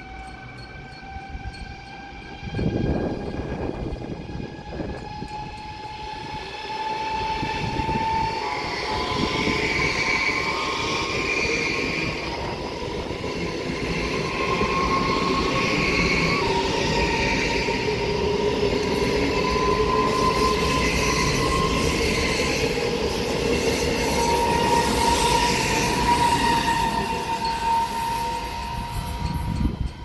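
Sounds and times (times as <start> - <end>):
high-speed train passing: 0.0 - 30.0.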